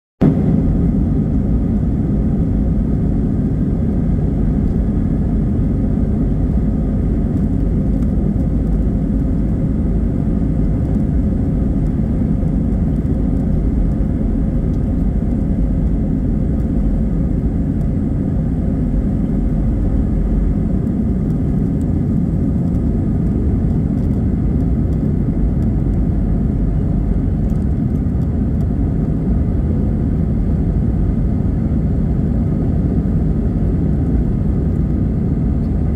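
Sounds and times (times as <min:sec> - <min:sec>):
airliner engine rumble: 0:00.2 - 0:35.9.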